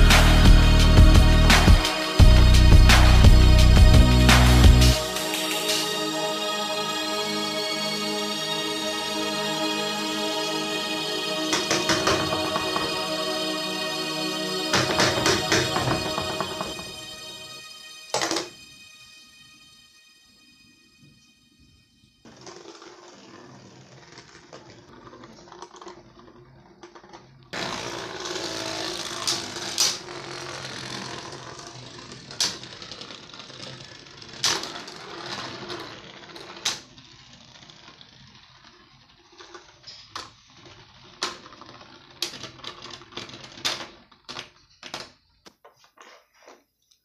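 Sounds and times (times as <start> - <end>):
spinning tops whirring and rattling: 0.0 - 6.6, 7.2 - 19.7, 22.2 - 44.1.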